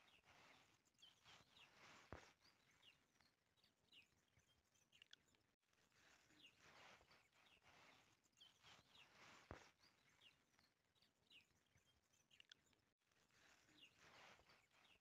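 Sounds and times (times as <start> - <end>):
small bird chirping: 0.0 - 5.4, 6.0 - 15.0.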